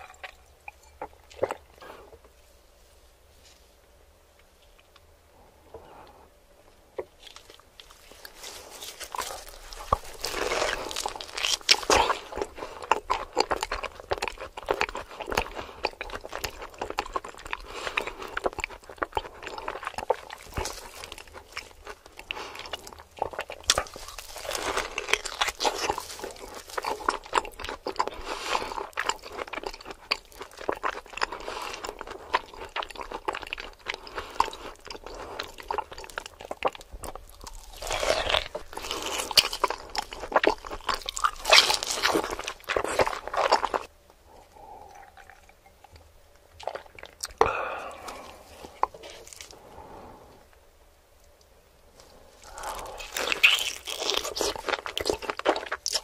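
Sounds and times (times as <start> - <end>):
person biting and chewing meat: 7.0 - 49.6, 52.0 - 56.0.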